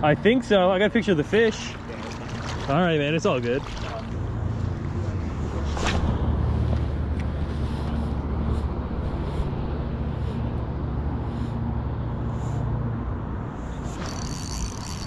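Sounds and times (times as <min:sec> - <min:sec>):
vehicle engine rumbling: 0:01.1 - 0:15.0.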